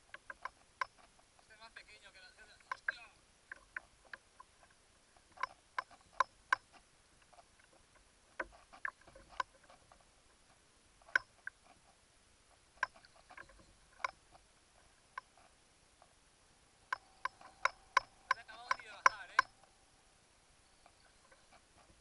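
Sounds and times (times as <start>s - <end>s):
light sharp clicks and taps: 0.0s - 1.6s, 2.4s - 16.2s, 16.9s - 19.7s.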